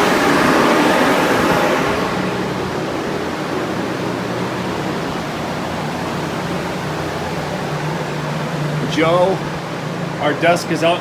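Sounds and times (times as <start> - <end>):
fans rushing air: 0.0 - 11.0.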